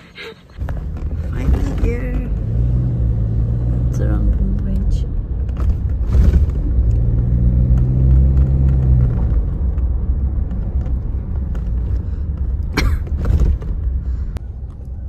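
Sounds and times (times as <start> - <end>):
car engine and road rumble: 0.0 - 15.0
low engine hum: 0.0 - 15.0.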